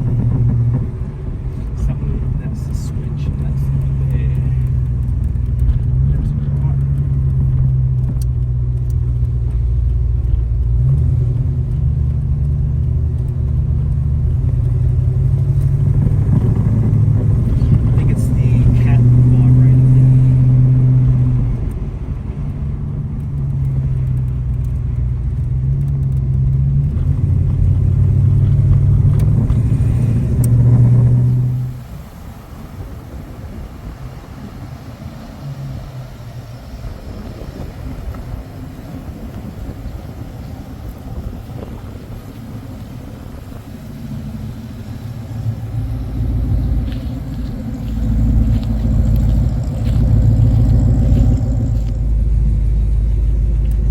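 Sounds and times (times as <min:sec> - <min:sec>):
car engine and exhaust: 0:00.0 - 0:53.9.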